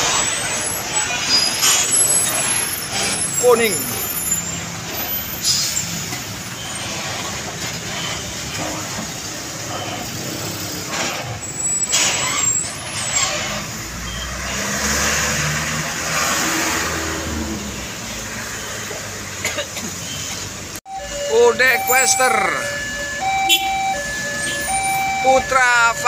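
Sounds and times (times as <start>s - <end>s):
diesel trucks passing: 0.0s - 26.0s.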